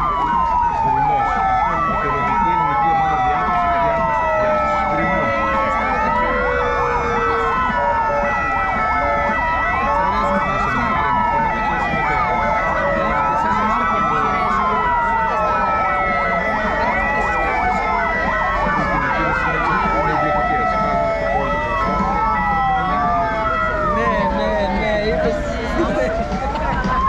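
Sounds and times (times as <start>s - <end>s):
sirens wailing: 0.0s - 27.0s.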